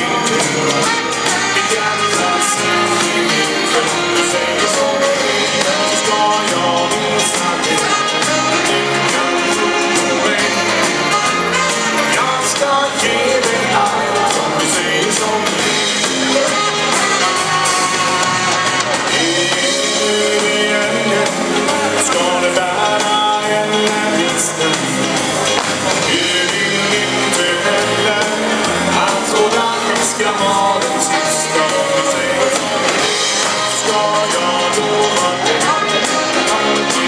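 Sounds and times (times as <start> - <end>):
live band playing upbeat song: 0.0 - 37.0.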